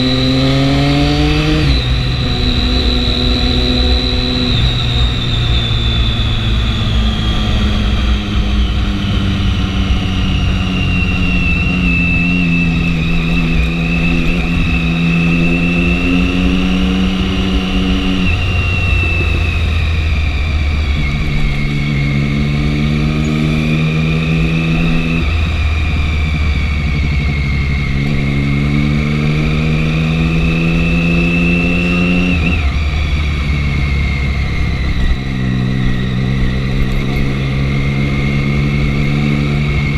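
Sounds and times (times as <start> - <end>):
high whine: 0.0 - 39.9
motorcycle engine shifting gears: 0.0 - 39.9.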